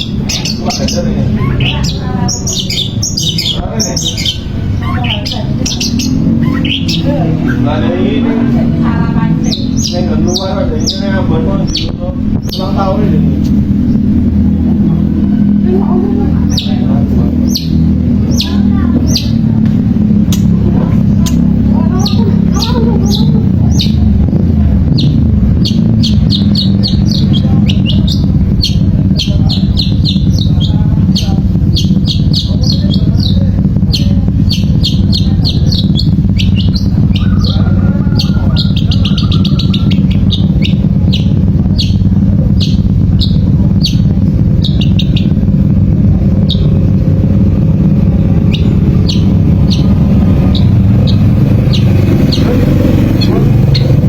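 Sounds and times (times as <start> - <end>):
bird chirping high: 0.0 - 24.2, 24.8 - 54.0
steady low rumble: 0.0 - 54.0.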